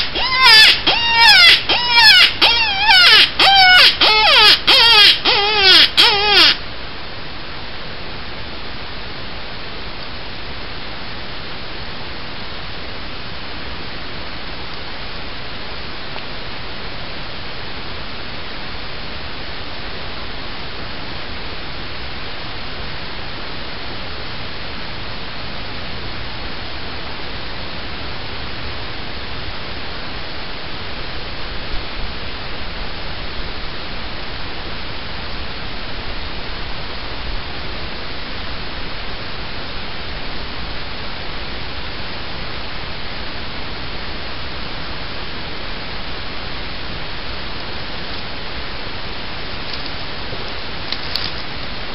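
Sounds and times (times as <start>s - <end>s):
steady rushing hiss: 4.6s - 51.9s.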